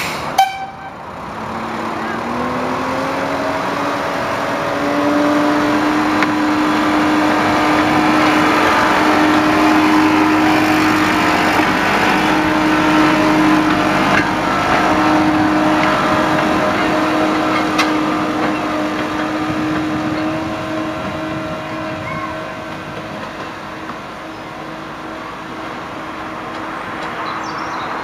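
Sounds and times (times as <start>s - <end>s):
locomotive engine drone: 0.0s - 28.0s.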